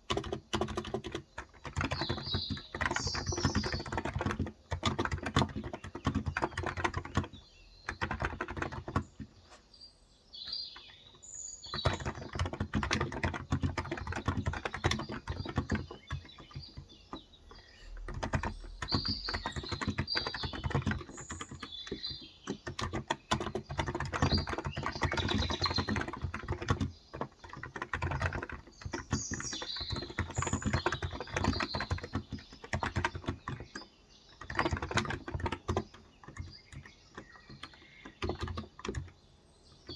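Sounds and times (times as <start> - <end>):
keyboard typing: 0.0 - 9.4, 10.4 - 39.2
birds chirping: 0.0 - 39.9.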